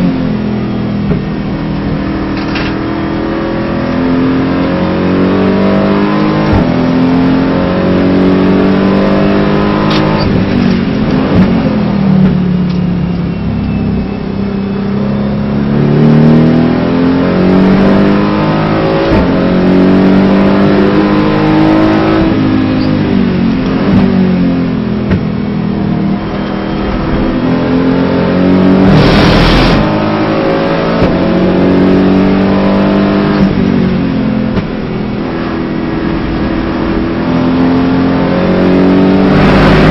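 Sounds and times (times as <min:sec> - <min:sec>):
race car engine revving: 0:01.0 - 0:12.4, 0:14.9 - 0:39.9.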